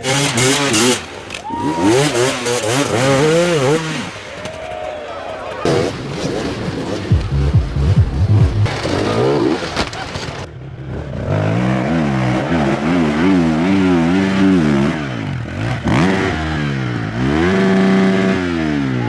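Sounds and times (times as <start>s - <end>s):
dirt bike engine revving: 0.0s - 4.6s, 5.5s - 19.0s.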